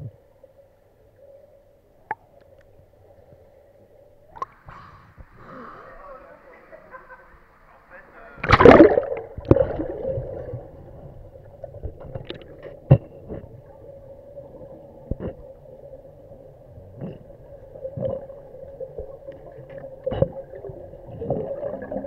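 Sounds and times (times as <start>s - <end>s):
underwater hum: 0.0s - 22.0s.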